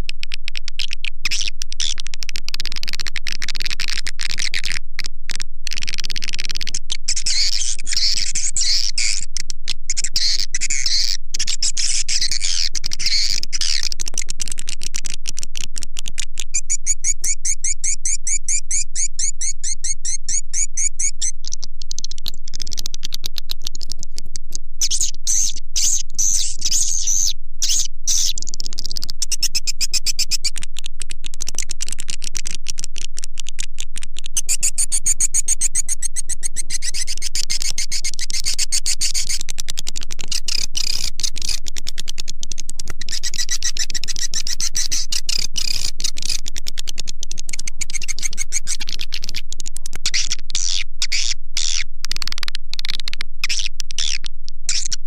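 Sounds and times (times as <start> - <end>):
steady low hum: 0.0 - 55.0
swiftlet chirping and clicking: 0.0 - 55.0.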